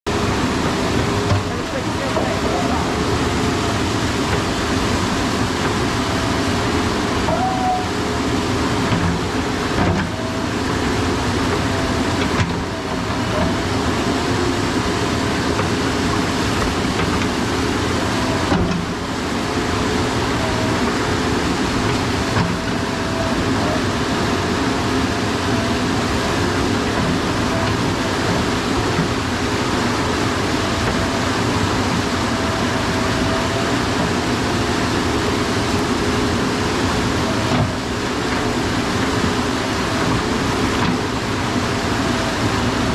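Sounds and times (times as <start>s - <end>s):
diesel engine running: 0.0s - 42.9s
steady whine: 0.1s - 42.9s.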